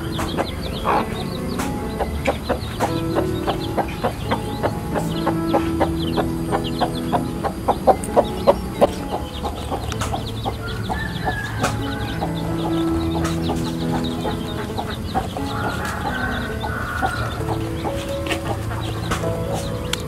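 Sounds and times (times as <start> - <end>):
chickens clucking: 0.0 - 20.0
long low tones: 0.0 - 20.0.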